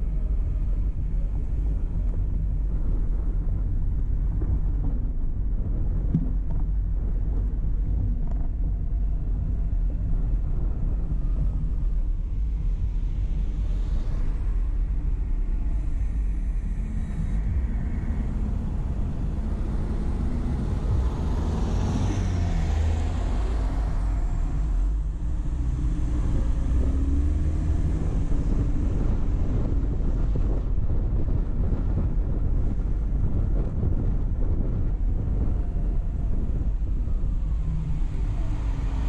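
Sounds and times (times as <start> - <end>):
car tyres and engine rumble: 0.0 - 39.0.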